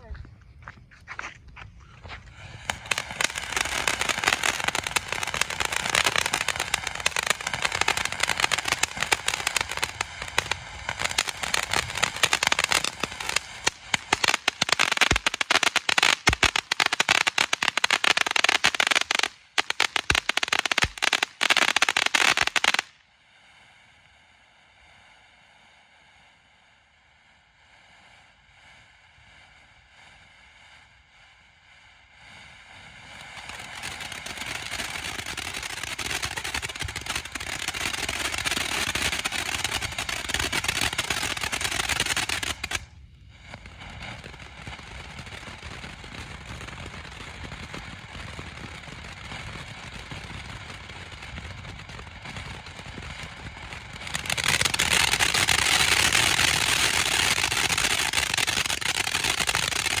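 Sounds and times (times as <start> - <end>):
firework fountain crackling: 0.0 - 60.0.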